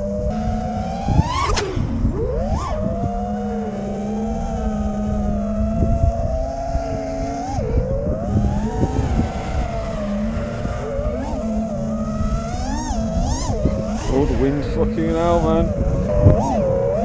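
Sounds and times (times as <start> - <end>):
drone motors whining: 0.0 - 17.0
wind rumbling on microphone: 0.0 - 17.0.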